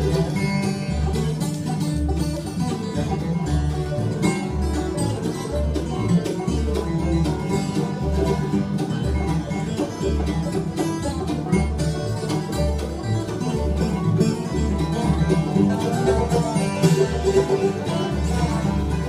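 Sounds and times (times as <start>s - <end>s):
bluegrass band playing: 0.0s - 19.0s
plucked string lead: 0.0s - 19.0s
steady bass notes: 0.0s - 19.0s.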